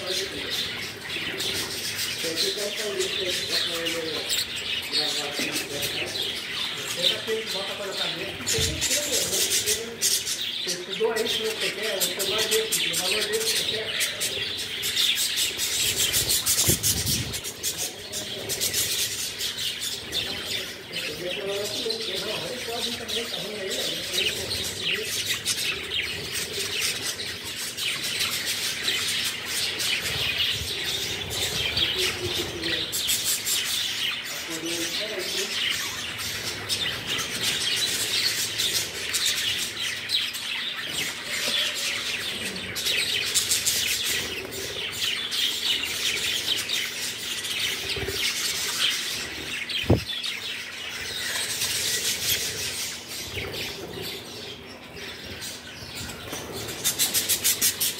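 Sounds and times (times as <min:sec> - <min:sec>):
budgerigars chirping and warbling: 0:00.0 - 0:57.9.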